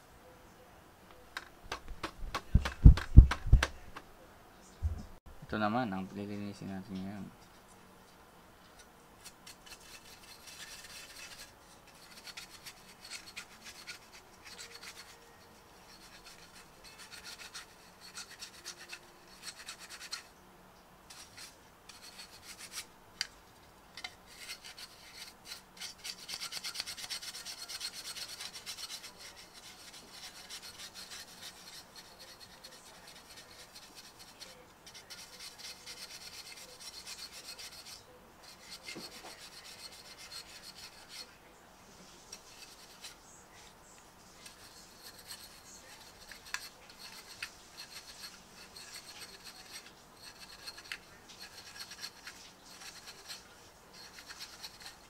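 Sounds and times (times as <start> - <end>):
brush scrubbing plastic fan: 9.2 - 20.3, 21.1 - 55.0.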